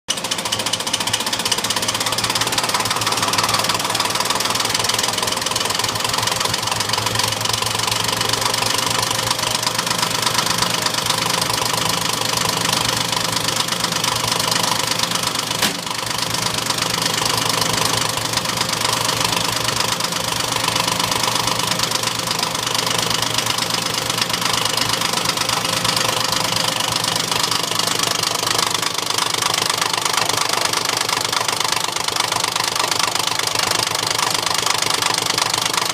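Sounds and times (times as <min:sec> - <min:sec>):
fuel injection pump clattering: 0:00.1 - 0:35.9.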